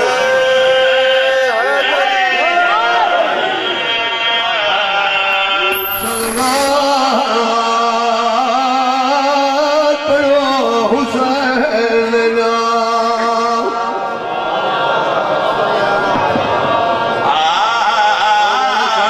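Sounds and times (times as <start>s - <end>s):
man singing devotional recitation: 0.0s - 14.2s, 17.2s - 19.0s.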